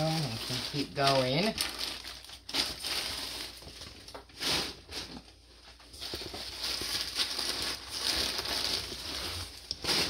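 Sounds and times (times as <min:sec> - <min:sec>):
plastic bags and clothing rustling: 0:00.0 - 0:10.0.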